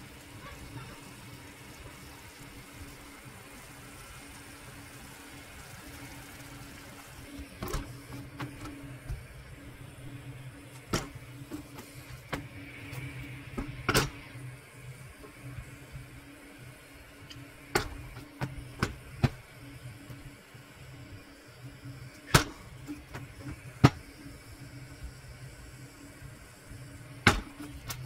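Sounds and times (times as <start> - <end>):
low kitchen hum: 0.0 - 28.0.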